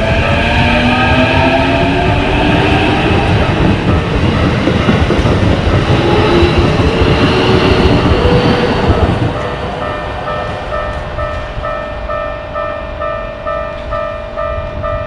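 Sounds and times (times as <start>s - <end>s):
level-crossing warning bell ringing: 0.0s - 15.0s
train wheels rumbling and clattering: 0.0s - 15.0s.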